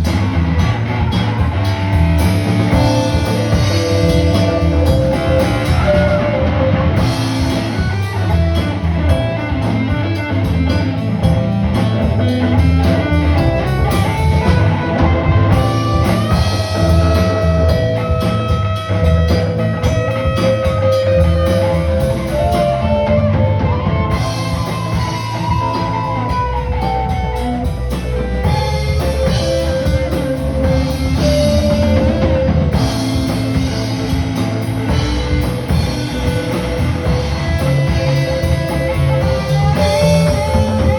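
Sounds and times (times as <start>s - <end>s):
drum kit: 0.0s - 40.9s
electric guitar bending notes: 0.0s - 40.9s.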